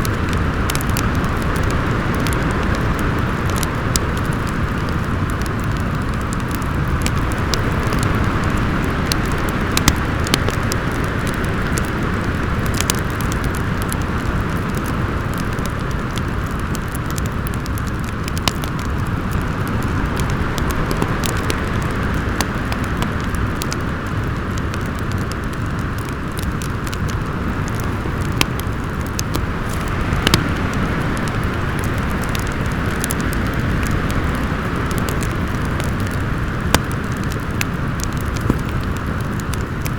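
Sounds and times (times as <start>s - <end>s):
storm wind howling: 0.0s - 39.9s
wood fire crackling: 0.0s - 39.9s.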